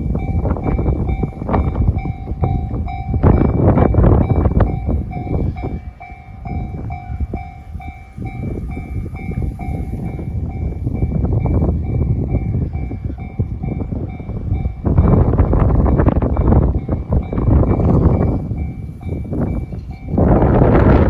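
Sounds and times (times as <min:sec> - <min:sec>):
train rumbling: 0:00.0 - 0:21.0
train wheels clicking on rail joints: 0:00.0 - 0:21.0.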